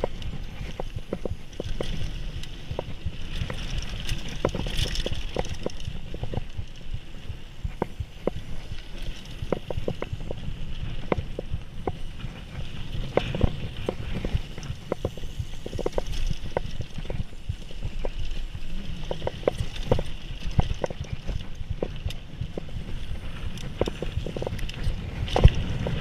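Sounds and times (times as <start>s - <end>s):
bike rattling over bumps: 0.0s - 26.0s
bike tyres rumbling on dirt: 0.0s - 26.0s.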